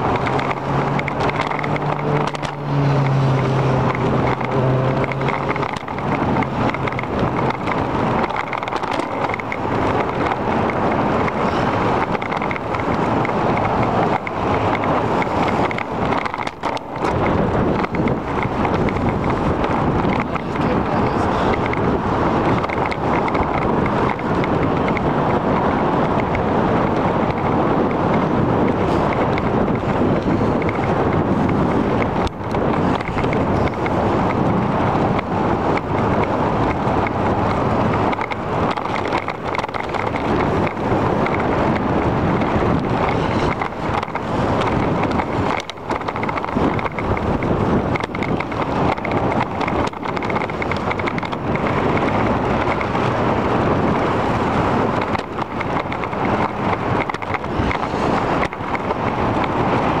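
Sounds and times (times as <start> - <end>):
loud wind noise on microphone: 0.0 - 60.0.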